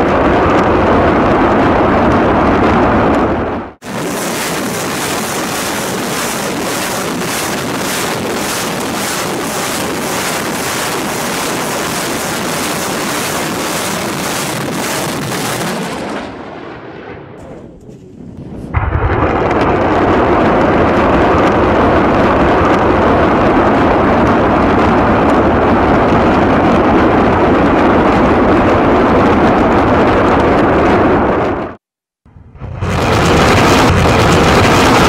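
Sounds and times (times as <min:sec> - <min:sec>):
rapid rocket launches: 0:00.0 - 0:31.6, 0:32.5 - 0:35.0
rocket motors roaring: 0:00.0 - 0:31.7.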